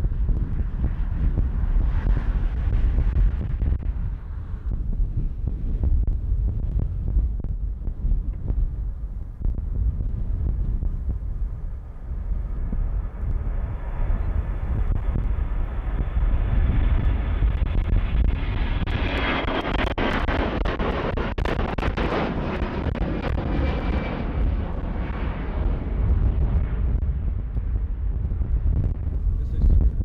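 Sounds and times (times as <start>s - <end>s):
jet airliner roaring past: 0.0s - 30.0s.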